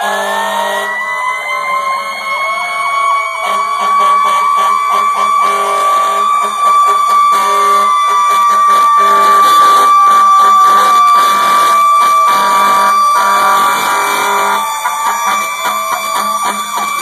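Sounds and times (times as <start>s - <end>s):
wailing siren: 0.0s - 17.0s
warbling yelp siren: 0.0s - 17.0s
low horn: 3.4s - 17.0s.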